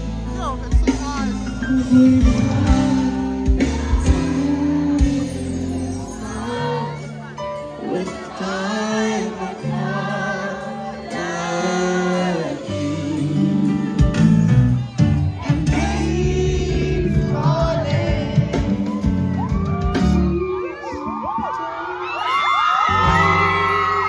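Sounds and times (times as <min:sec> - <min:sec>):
song with singing over beat: 0:00.0 - 0:24.0.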